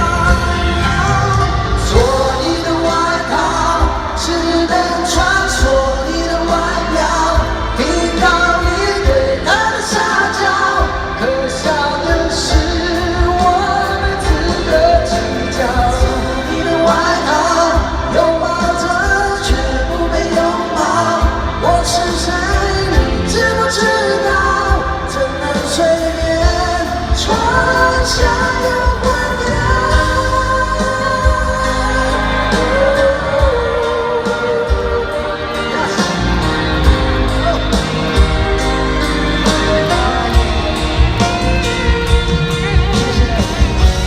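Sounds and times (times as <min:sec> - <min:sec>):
live pop-rock band: 0:00.0 - 0:44.0
person singing: 0:00.0 - 0:44.0.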